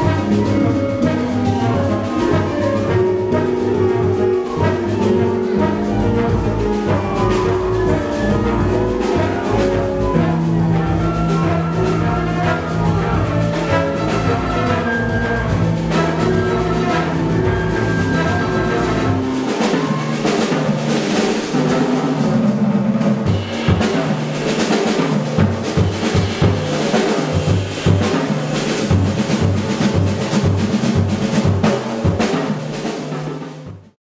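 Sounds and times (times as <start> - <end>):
big band playing: 0.0 - 34.0
drum kit hitting hard: 0.0 - 34.0.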